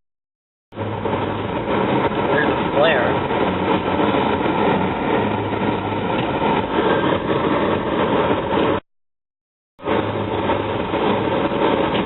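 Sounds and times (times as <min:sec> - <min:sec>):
car engine and cabin noise: 0:00.7 - 0:08.8, 0:09.8 - 0:12.0.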